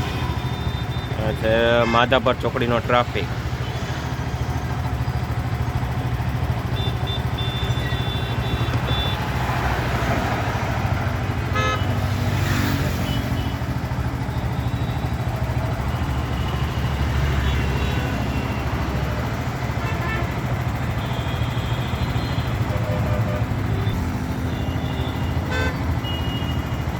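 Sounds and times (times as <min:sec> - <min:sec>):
car and motorcycle horns: 0:00.0 - 0:26.9
traffic rumble: 0:00.0 - 0:26.9.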